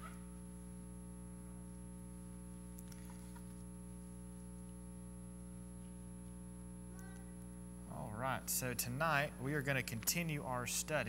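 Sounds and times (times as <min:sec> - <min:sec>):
electrical mains hum: 0:00.0 - 0:11.0
faint high whine: 0:00.0 - 0:11.0.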